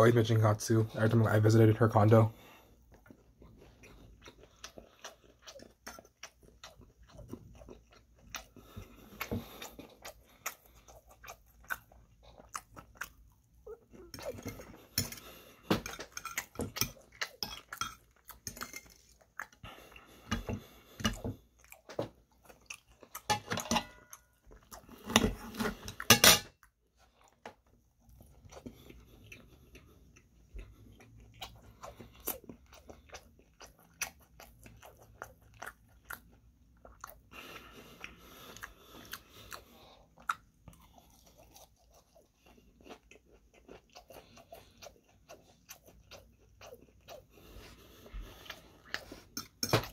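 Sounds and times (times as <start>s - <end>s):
person chewing crunchy fried chicken: 1.0s - 49.9s.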